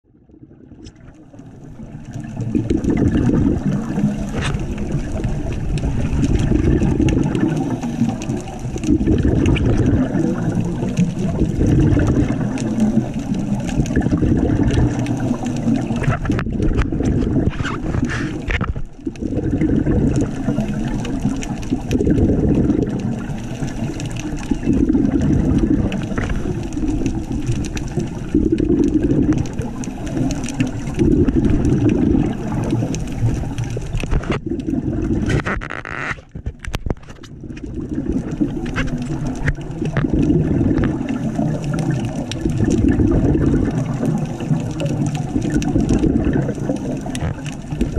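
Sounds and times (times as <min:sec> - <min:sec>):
scuba regulator bubbles underwater: 0:00.0 - 0:47.9.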